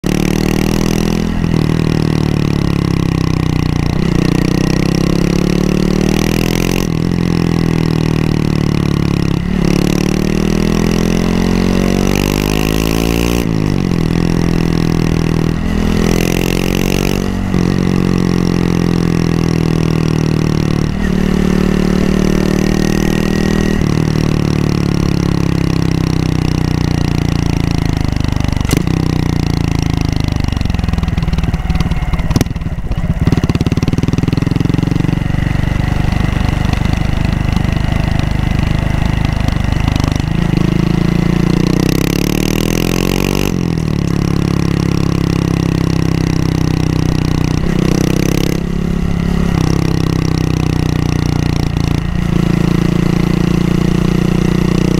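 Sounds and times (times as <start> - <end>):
motorcycle engine changing gears: 0.0 - 54.9.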